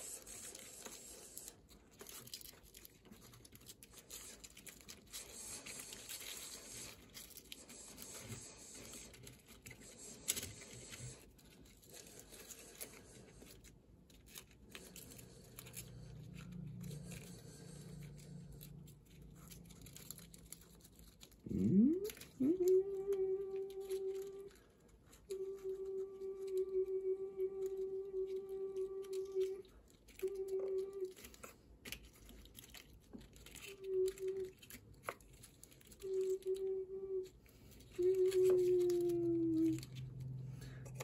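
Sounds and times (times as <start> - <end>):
paper and cardboard rustling: 0.0 - 26.7, 27.7 - 41.0.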